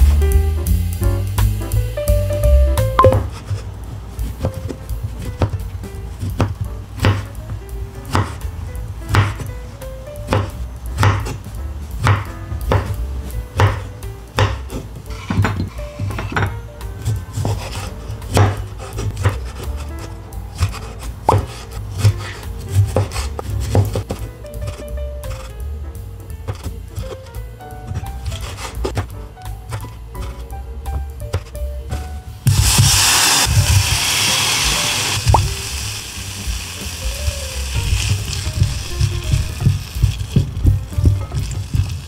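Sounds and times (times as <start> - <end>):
background music: 0.0 - 42.0.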